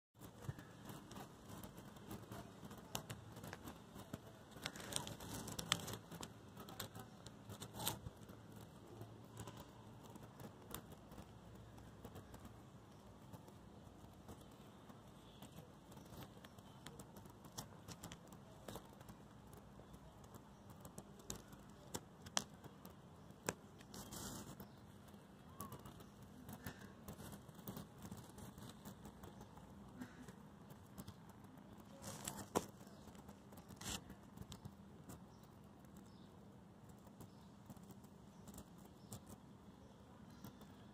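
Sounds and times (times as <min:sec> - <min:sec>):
dry grass and leaves rustling: 0:00.2 - 0:36.1
light clicks and crunches: 0:00.2 - 0:40.9.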